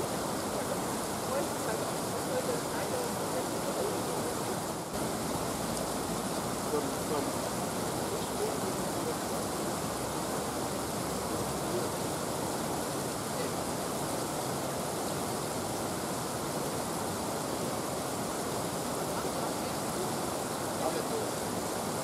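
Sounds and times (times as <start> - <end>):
river water spilling over a weir: 0.0 - 22.0.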